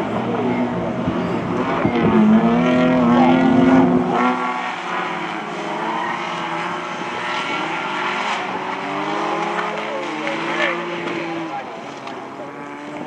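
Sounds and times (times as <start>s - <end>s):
racing car engines revving: 0.0s - 13.0s.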